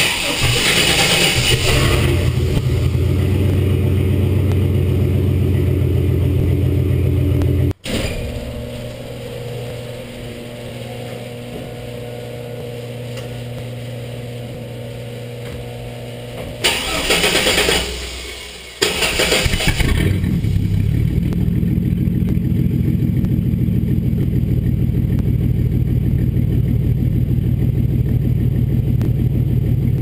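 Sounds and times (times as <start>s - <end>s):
truck engine starting: 0.0s - 15.4s, 16.5s - 30.0s
truck engine running loud: 0.0s - 30.0s.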